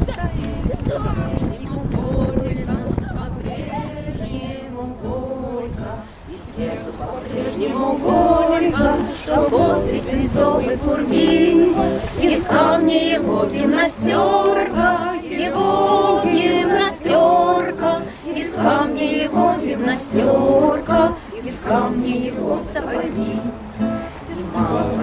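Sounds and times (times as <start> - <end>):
group of voices singing: 0.0 - 25.0.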